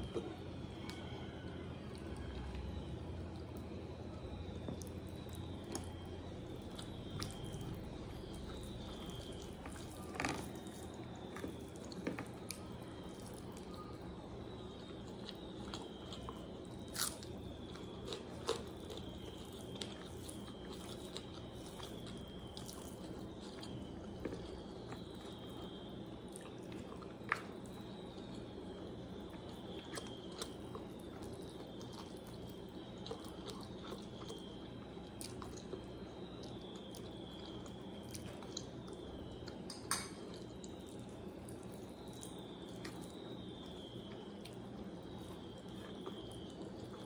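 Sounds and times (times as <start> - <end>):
low background hum: 0.0 - 47.0
chewing and mouth noises: 4.6 - 47.0.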